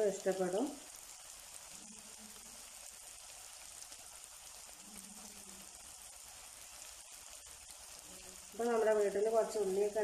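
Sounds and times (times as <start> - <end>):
oil sizzling and bubbling: 0.0 - 10.0.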